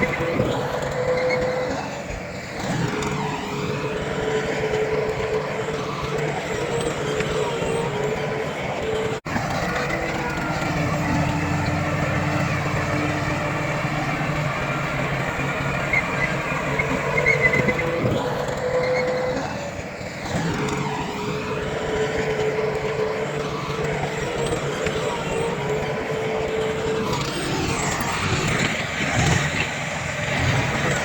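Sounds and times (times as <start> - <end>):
diesel earthmoving machinery running: 0.0 - 31.0
engine whine: 0.0 - 31.0.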